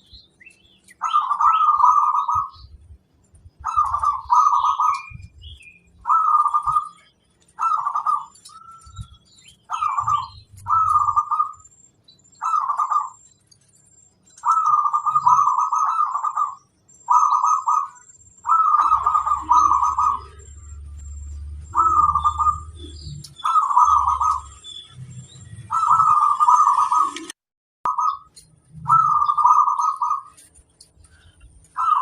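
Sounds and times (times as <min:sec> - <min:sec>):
faint high bird chirps: 0:00.0 - 0:32.0
dove trilled cooing: 0:00.8 - 0:02.8, 0:03.5 - 0:11.6, 0:12.4 - 0:13.3, 0:14.3 - 0:24.6, 0:25.6 - 0:27.3, 0:27.9 - 0:30.5, 0:31.8 - 0:32.0.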